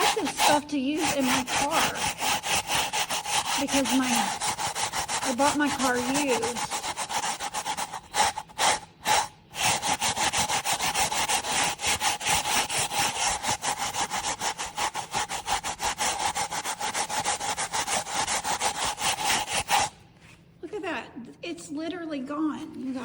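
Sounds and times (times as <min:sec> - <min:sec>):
stiff brush scrubbing carpet: 0:00.0 - 0:20.4.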